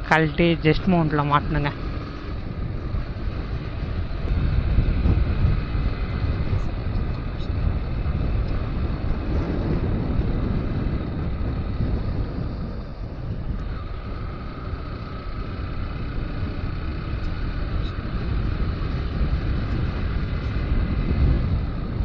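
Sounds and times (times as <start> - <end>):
faint steady whine: 0.0 - 22.0
wind buffeting and road noise: 0.0 - 22.0.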